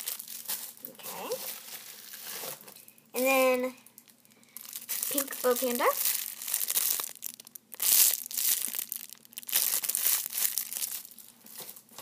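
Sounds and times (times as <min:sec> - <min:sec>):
plastic packaging crinkling: 0:00.0 - 0:03.0, 0:04.0 - 0:12.0.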